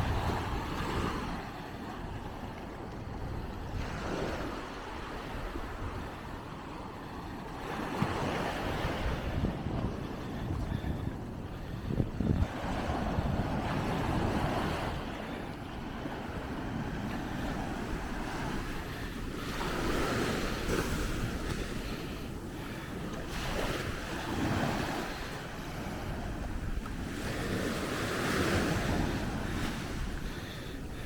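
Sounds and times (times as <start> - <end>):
ocean waves breaking: 0.0 - 31.0
wind buffeting microphone: 0.0 - 31.0.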